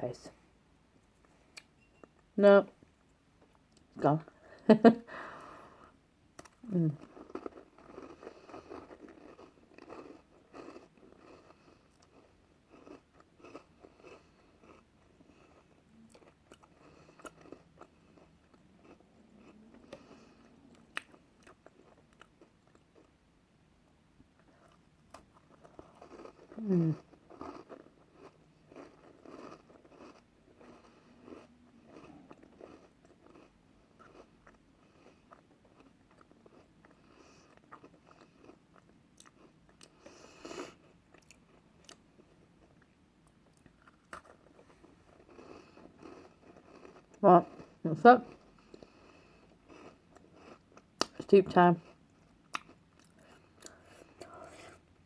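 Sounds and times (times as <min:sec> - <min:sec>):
person chewing crunchy snack: 0:06.4 - 0:23.1, 0:24.4 - 0:54.8.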